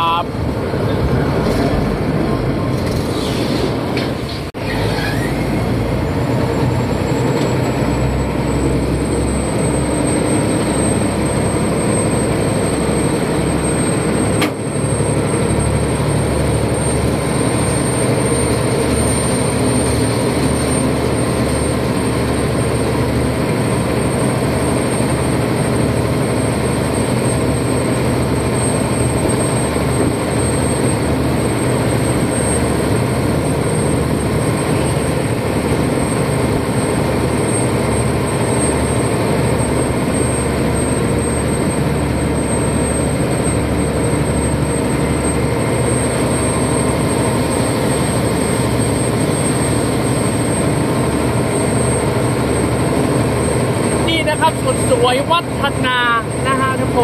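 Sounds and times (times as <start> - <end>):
boat engine running: 0.0 - 3.2, 4.6 - 57.0.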